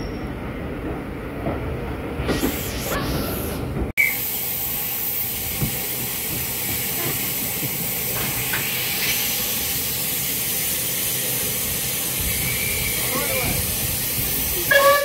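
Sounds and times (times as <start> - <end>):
steam locomotive hissing steam: 2.2 - 15.0.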